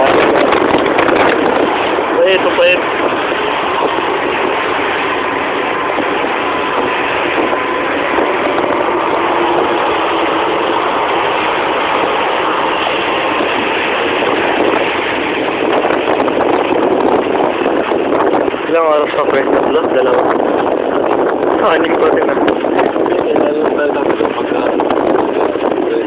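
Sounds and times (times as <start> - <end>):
speedboat engine and water rush: 0.0 - 26.0.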